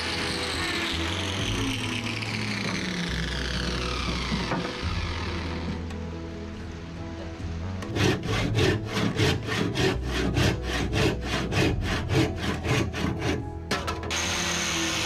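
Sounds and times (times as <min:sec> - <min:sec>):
handsaw cutting wood: 0:00.0 - 0:05.9, 0:07.8 - 0:15.0
background music: 0:00.0 - 0:15.0.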